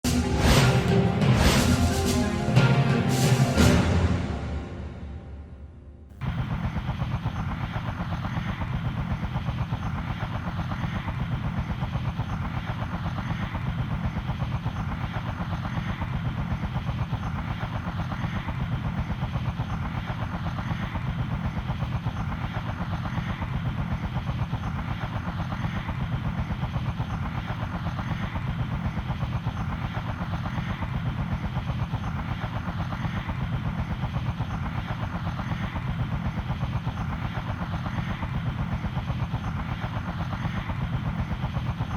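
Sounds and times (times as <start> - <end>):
helicopter rotor blades chopping: 6.2 - 41.9.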